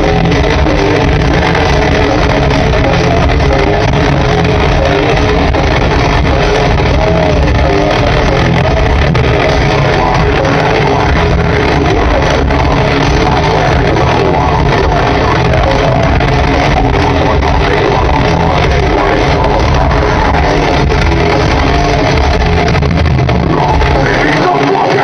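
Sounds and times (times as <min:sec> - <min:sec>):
heavy metal band playing live: 0:00.0 - 0:25.0.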